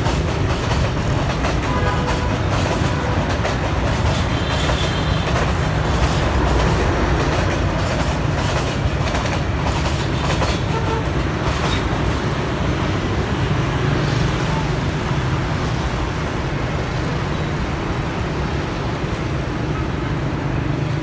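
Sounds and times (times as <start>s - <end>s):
city bus: 0.0s - 21.0s
motorbikes: 0.0s - 21.0s
passenger train passing: 0.0s - 21.0s.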